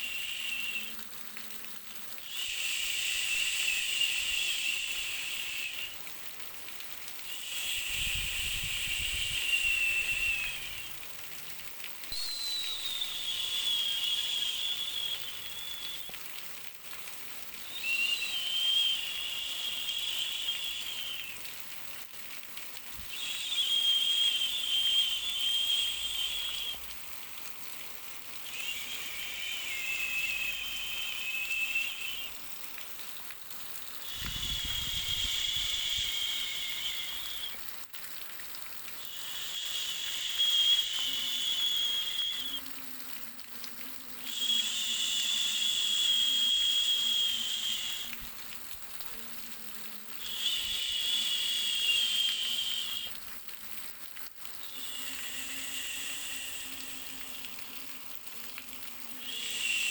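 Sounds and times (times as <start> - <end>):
whistling white noise: 0.0 - 6.4, 7.0 - 37.8, 38.9 - 59.9
steady low hiss: 0.0 - 59.9.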